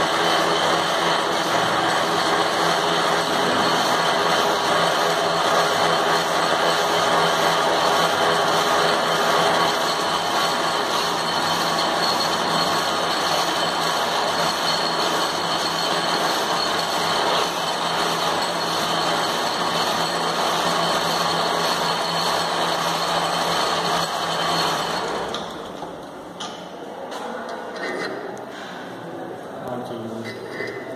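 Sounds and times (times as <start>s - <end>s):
metal lathe humming and whining: 0.0s - 25.6s.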